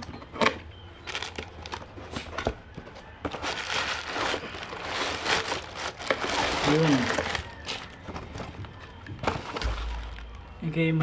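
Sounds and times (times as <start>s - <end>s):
packaging crinkling and rustling: 0.0s - 10.6s.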